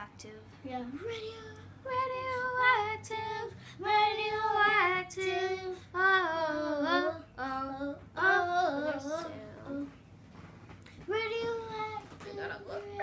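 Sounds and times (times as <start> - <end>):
girl singing without words: 0.7 - 10.0, 11.0 - 13.0.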